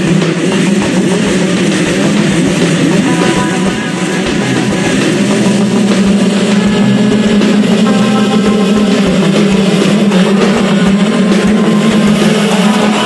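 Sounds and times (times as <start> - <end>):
motorbike engines at high revs: 0.0 - 13.0.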